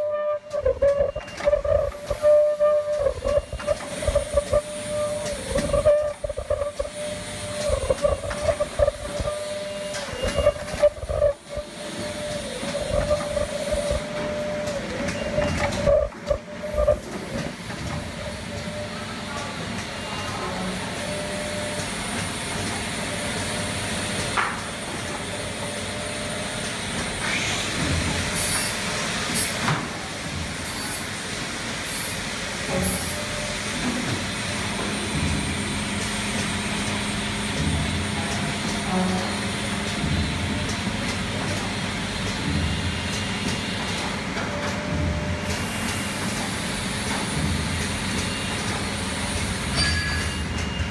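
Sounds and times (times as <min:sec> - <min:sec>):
packing machine running: 0:00.0 - 0:50.9.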